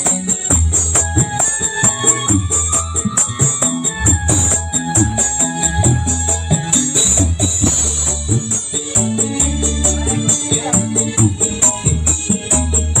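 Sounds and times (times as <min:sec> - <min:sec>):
bass-heavy music on small speaker: 0:00.0 - 0:13.0.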